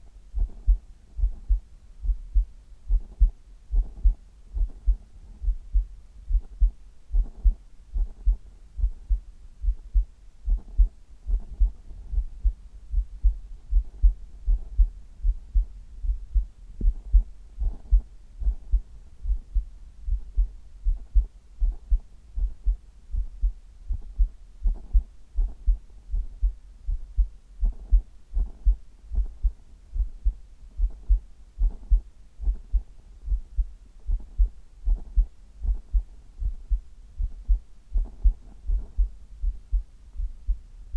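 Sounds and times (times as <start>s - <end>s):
heartbeat thumps: 0.3s - 40.9s.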